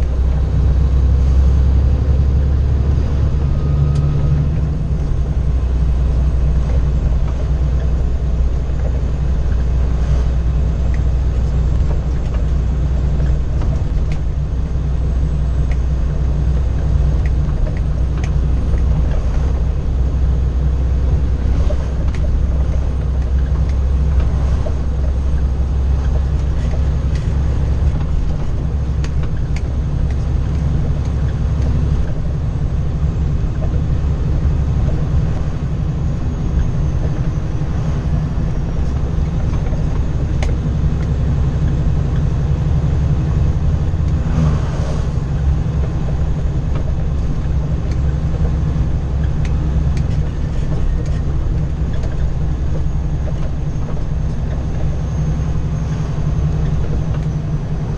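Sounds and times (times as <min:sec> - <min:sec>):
road and tyre noise: 0:00.0 - 0:57.9
truck diesel engine droning: 0:00.0 - 0:57.9.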